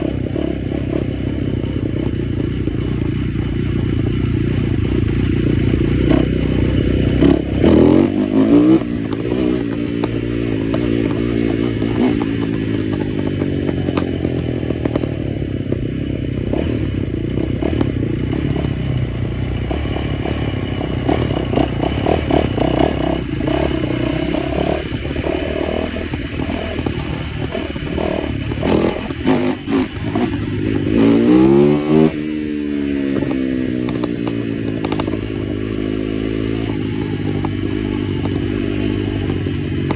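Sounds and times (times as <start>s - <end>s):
small motorcycle engine revving: 0.0s - 39.9s.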